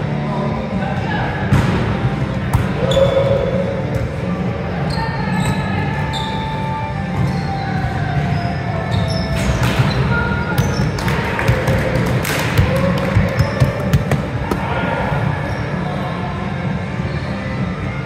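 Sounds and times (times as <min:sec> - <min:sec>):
music: 0:00.0 - 0:18.0.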